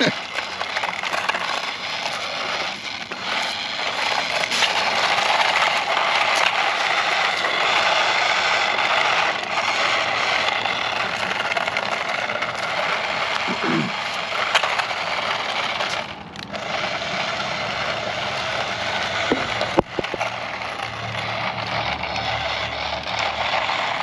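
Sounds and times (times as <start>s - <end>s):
toy cars driving over rough ground: 0.0s - 24.0s.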